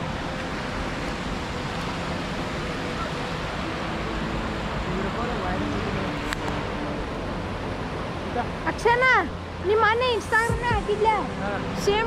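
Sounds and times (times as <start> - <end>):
river rapids rushing over rock: 0.0 - 12.0.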